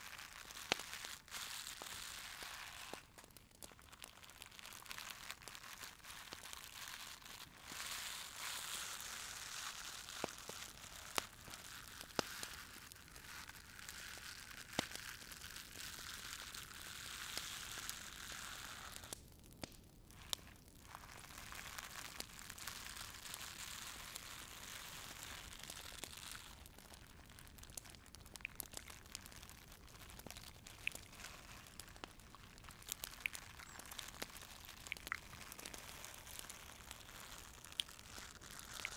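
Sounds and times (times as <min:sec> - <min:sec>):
fire crackling and popping: 0:00.0 - 0:38.9.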